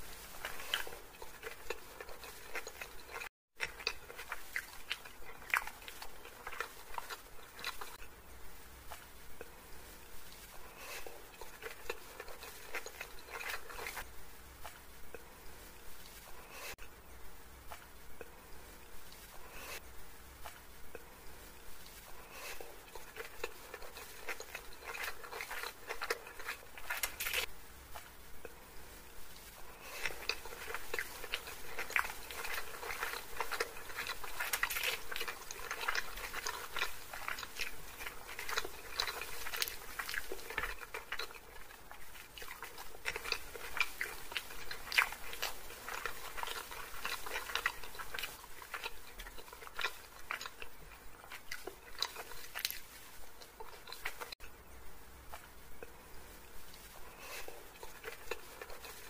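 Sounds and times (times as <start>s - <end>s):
close-miked chewing: 0.0s - 8.1s, 8.8s - 16.9s, 20.4s - 54.6s, 55.3s - 59.0s.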